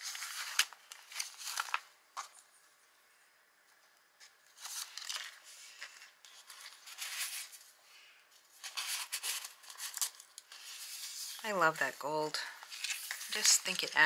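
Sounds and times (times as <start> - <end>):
paper pages rustling: 0.0 - 2.6, 4.2 - 14.0.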